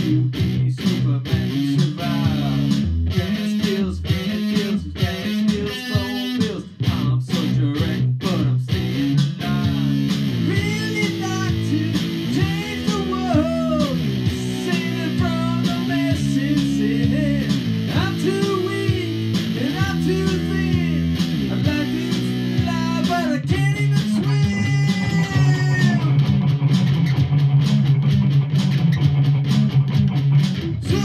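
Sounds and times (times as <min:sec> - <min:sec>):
man singing: 0:00.0 - 0:26.2, 0:30.8 - 0:31.0
electric guitars playing rock: 0:00.0 - 0:31.0.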